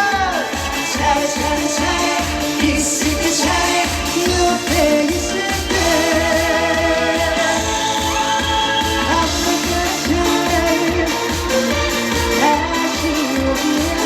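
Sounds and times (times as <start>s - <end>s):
amplified backing music beat: 0.0s - 14.0s
person singing: 0.0s - 14.0s.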